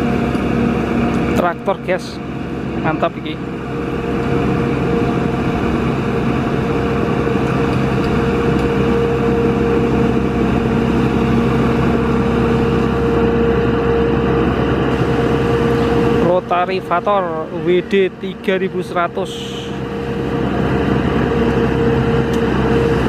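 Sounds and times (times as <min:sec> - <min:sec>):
high whine: 0:00.0 - 0:23.0
rotavator engine running: 0:00.0 - 0:23.0.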